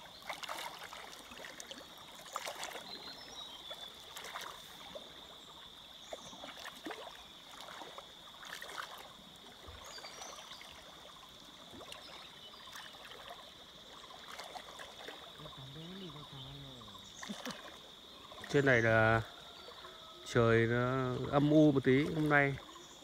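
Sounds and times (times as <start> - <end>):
shallow water sloshing and splashing: 0.0 - 23.0.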